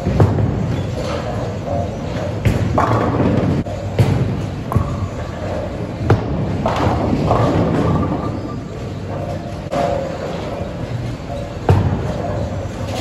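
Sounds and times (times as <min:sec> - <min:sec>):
balls hitting pins: 0:00.0 - 0:13.0
bowling balls rolling on lanes: 0:00.0 - 0:13.0.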